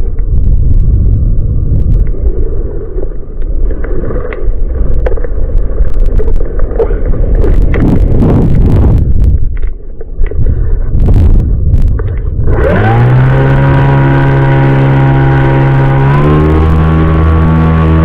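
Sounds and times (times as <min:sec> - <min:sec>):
droning tone with overtones: 0:00.0 - 0:18.0
wind buffeting microphone: 0:00.0 - 0:18.0.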